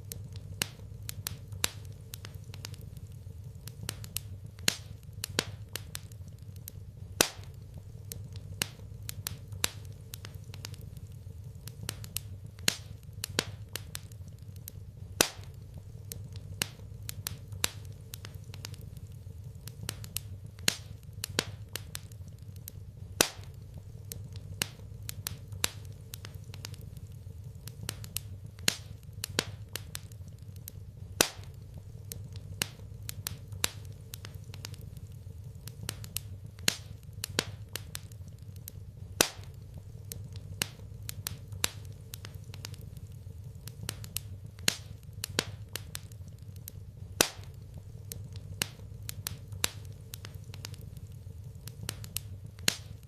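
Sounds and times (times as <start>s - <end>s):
steady low hum: 0.0s - 53.0s
wood fire crackling: 0.0s - 53.0s.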